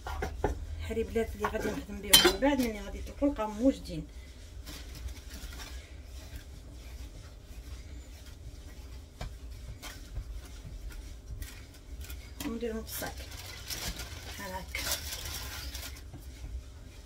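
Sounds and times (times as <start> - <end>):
hands rubbing dough: 0.0 - 17.0
low steady hum: 0.0 - 17.0.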